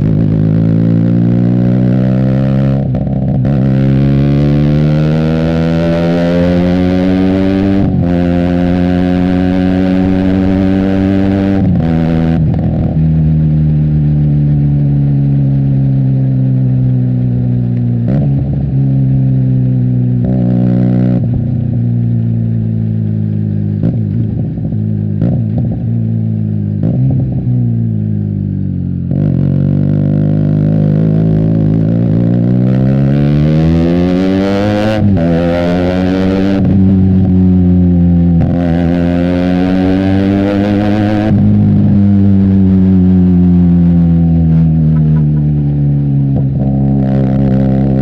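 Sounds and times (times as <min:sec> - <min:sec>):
motorcycle engine slowing: 0:00.0 - 0:33.8, 0:40.3 - 0:48.0.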